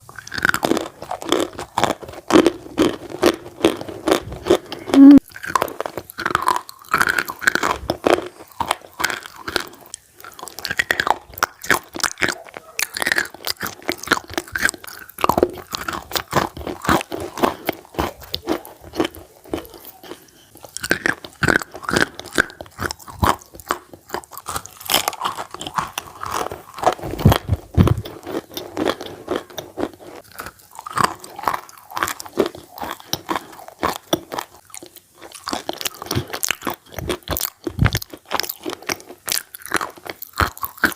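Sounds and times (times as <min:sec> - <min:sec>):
chalk being chewed: 0:00.1 - 0:40.9.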